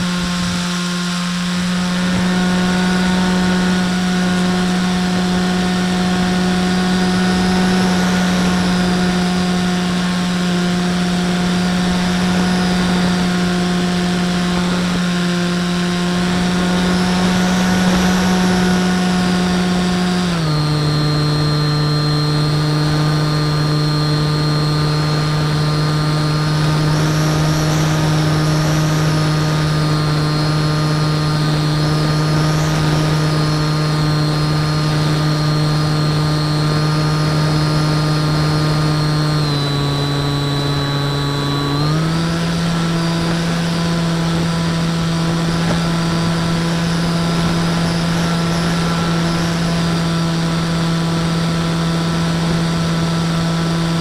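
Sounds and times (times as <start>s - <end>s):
electric motor and propeller whine: 0.0s - 54.0s.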